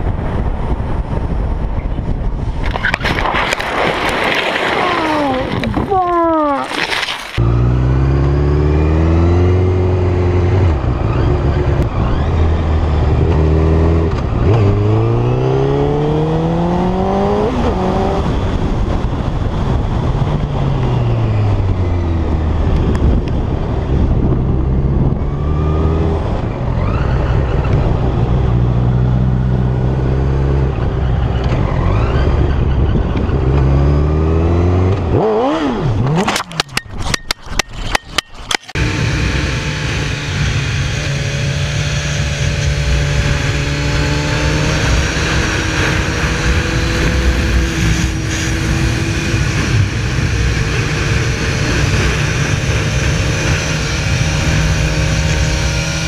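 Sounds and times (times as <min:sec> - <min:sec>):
motorcycle engine accelerating: 0:07.4 - 0:37.3, 0:37.9 - 0:56.0.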